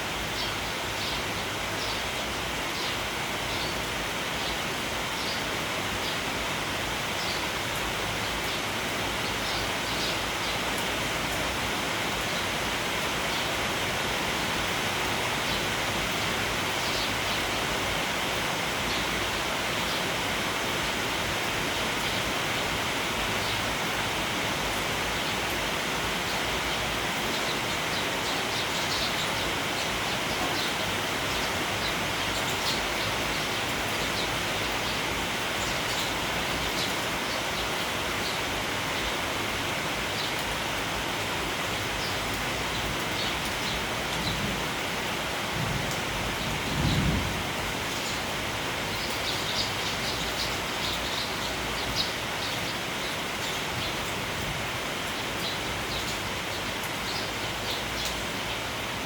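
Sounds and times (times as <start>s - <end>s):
rain falling: 0.0s - 59.0s
sparrows chirping: 0.1s - 45.1s, 46.3s - 59.0s.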